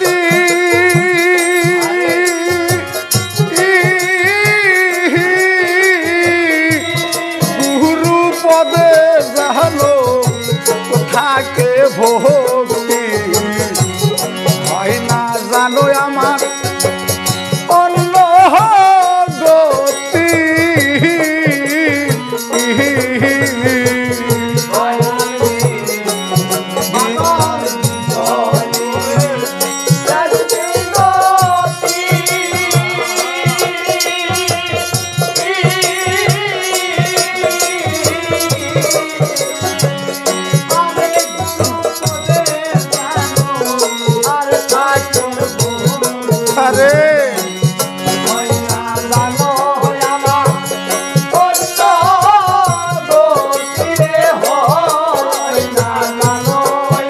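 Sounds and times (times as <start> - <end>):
hand cymbals jingling: 0.0 - 57.0
harmonium chords: 0.0 - 57.0
voices singing: 0.0 - 57.0.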